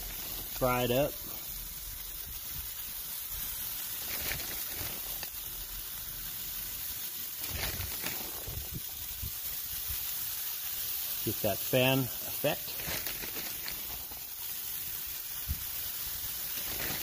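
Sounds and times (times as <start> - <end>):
cheese sizzling on a griddle: 0.0 - 17.0.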